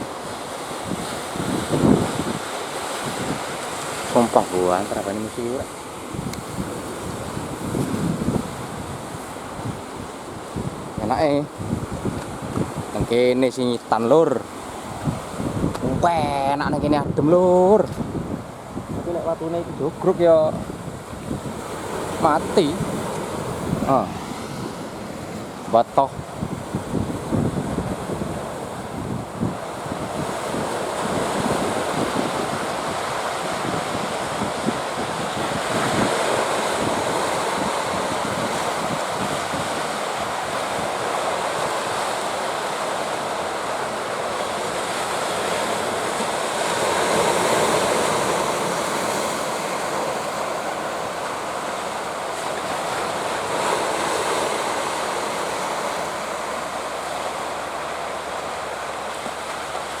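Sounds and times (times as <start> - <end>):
surf breaking on rocks: 0.0 - 60.0
wind buffeting microphone: 0.0 - 60.0.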